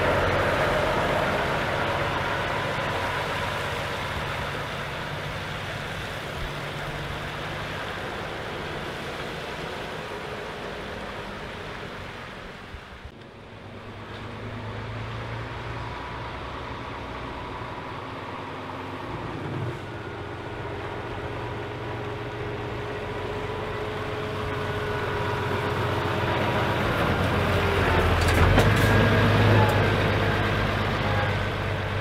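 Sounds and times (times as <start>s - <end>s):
truck diesel engine passing: 0.0s - 32.0s.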